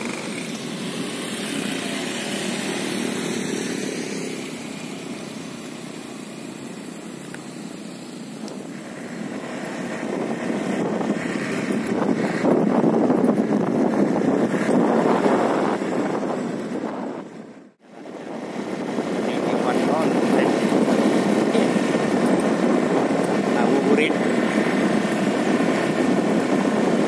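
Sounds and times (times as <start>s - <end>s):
motor scooter engine running: 0.0s - 27.0s.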